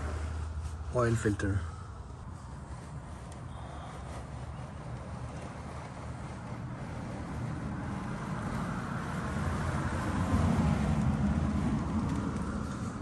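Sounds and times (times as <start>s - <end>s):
road vehicle rumbling: 0.0s - 13.0s.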